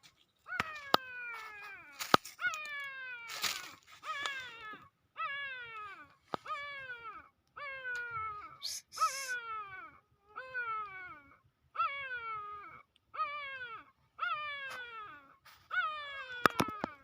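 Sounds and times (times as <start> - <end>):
puppy crying: 0.5 - 17.0.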